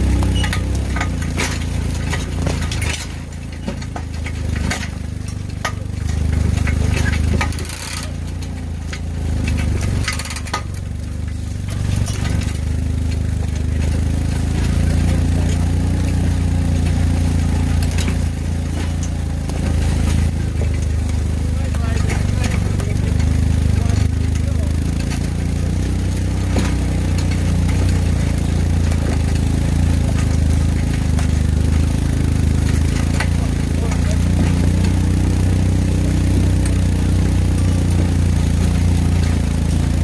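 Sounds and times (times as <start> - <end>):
knocks and clinks of rig: 0.0 - 36.0
engine running at low revs: 0.0 - 40.0.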